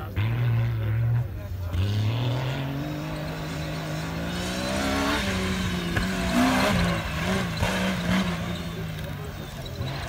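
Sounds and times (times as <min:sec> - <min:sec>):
engine pulling hard: 0:00.0 - 0:10.0.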